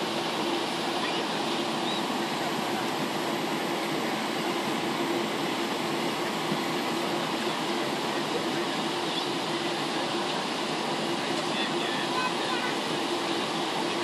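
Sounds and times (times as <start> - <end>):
jet engines roaring: 0.0 - 14.0
steady hum: 0.0 - 14.0.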